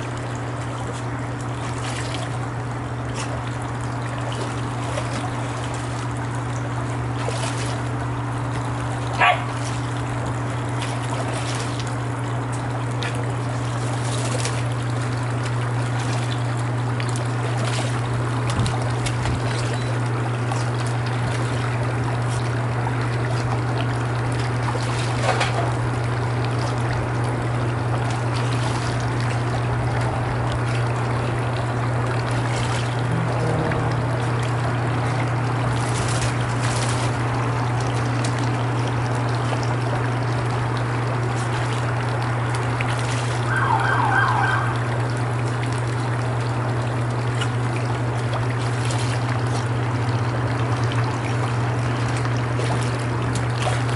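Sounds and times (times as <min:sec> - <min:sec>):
constant low hum: 0:00.0 - 0:53.9
pool water trickling: 0:00.0 - 0:53.9
dog splashing in water: 0:07.0 - 0:23.5, 0:24.3 - 0:27.0, 0:27.8 - 0:46.0, 0:47.1 - 0:53.9.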